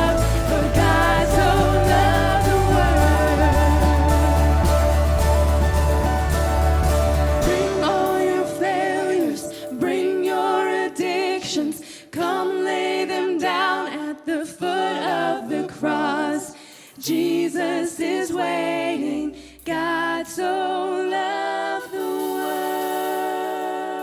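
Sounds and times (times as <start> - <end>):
singers singing in harmony: 0.0 - 24.0.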